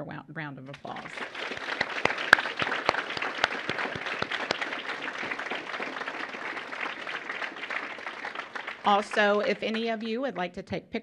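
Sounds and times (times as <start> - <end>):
close hand claps: 0.8 - 10.5
audience applauding: 0.8 - 10.6.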